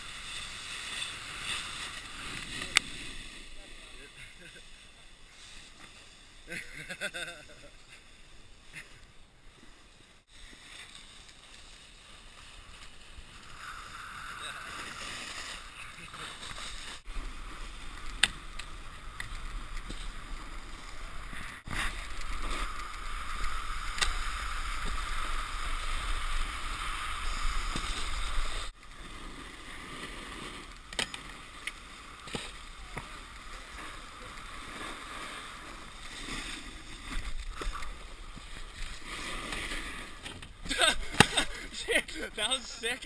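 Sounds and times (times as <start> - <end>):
snowboards scraping over snow: 0.0 - 43.0.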